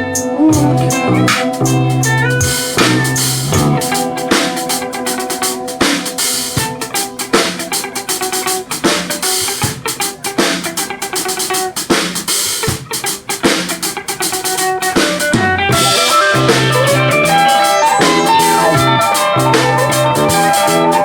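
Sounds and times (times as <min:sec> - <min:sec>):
live band playing: 0:00.0 - 0:21.0
drum kit kick and snare: 0:00.6 - 0:21.0.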